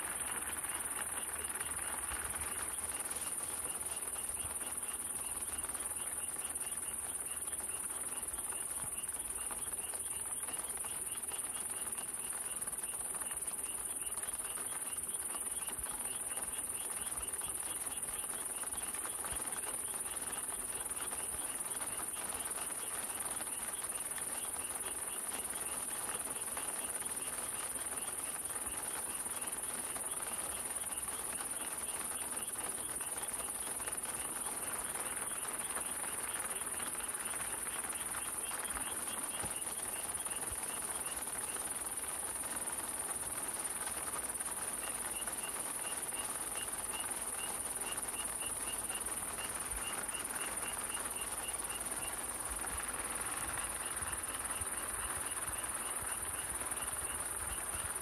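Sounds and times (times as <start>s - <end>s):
steady rain in forest: 0.0s - 58.0s.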